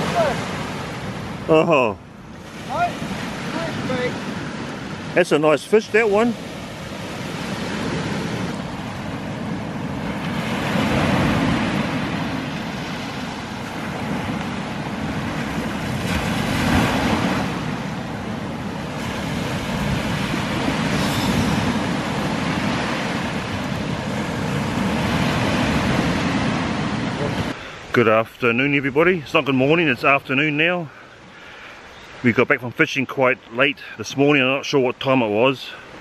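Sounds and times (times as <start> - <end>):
waves breaking on sandy beach: 0.0 - 36.0.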